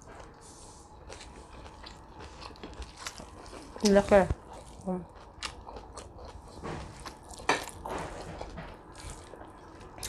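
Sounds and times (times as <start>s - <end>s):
chewing: 1.0s - 10.0s.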